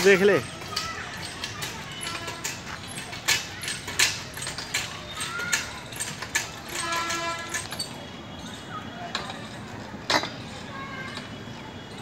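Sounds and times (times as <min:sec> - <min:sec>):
exercise machine clicking and creaking: 0:00.0 - 0:12.0.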